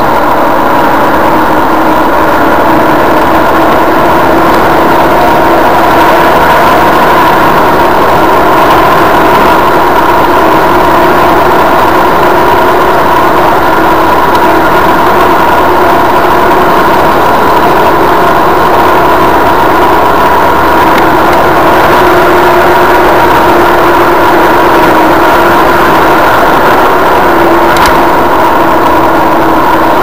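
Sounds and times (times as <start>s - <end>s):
car engine cruising: 0.0s - 30.0s
road noise: 0.0s - 30.0s.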